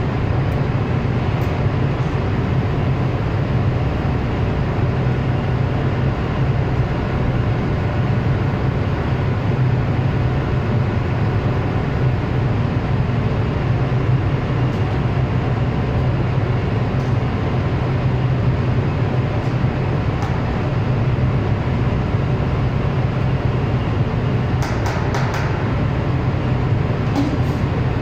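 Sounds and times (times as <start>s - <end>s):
diesel generator running: 0.0s - 28.0s.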